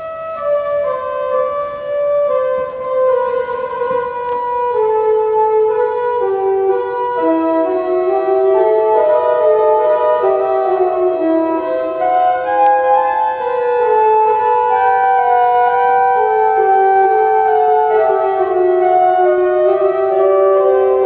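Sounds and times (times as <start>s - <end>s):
pipe organ chords: 0.0s - 21.0s.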